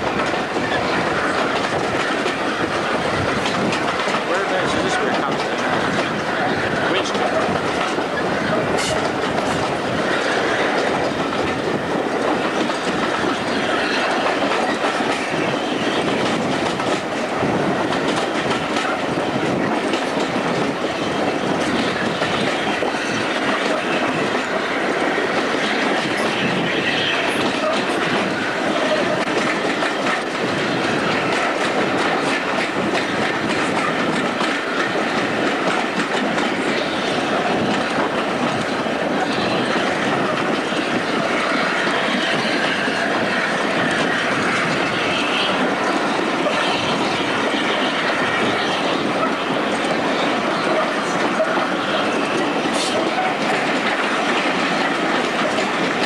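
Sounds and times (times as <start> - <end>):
train rolling rumble: 0.0 - 56.0
wheels clacking over rail joints: 0.0 - 56.0.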